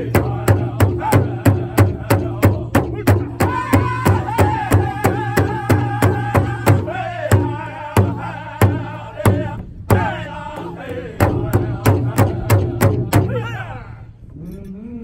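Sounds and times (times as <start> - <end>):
large drum beating: 0.0 - 13.5
men singing together: 0.0 - 13.8.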